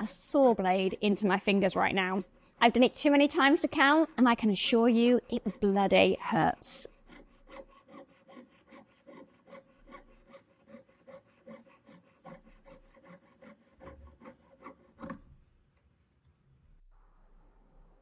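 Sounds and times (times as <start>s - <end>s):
jeweler's saw strokes on metal: 0.0s - 15.2s.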